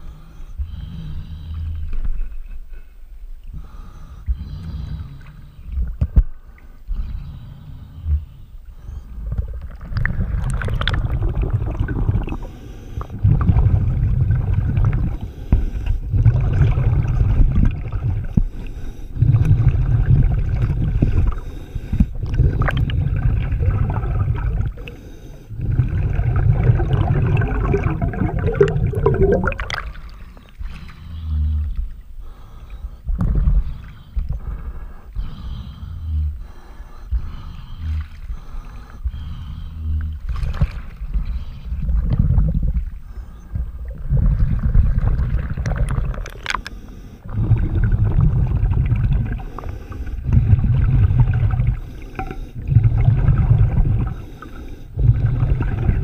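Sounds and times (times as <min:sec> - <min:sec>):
regulator exhale bubbling: 0:03.5 - 0:56.0.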